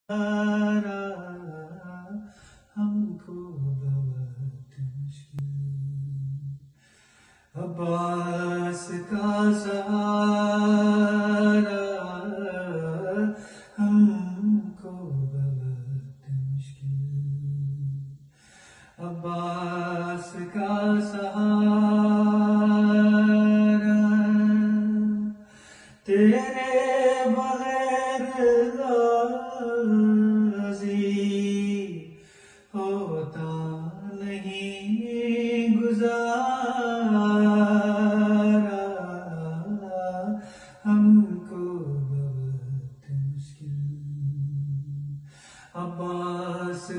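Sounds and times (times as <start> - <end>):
man chanting unaccompanied: 0.1 - 6.7, 7.5 - 18.3, 18.9 - 46.9.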